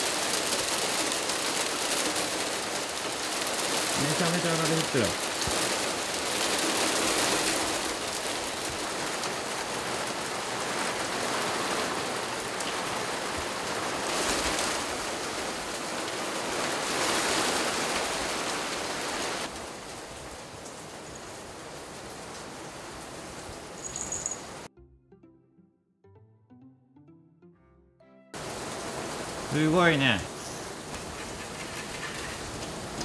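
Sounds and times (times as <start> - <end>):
hail and rain pelting down: 0.0 - 24.7, 28.4 - 33.0.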